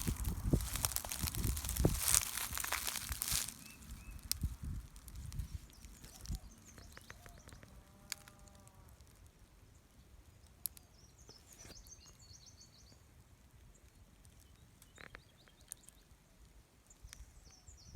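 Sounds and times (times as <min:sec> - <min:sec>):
distant small birds chirping: 0:00.0 - 0:08.8, 0:09.4 - 0:17.9.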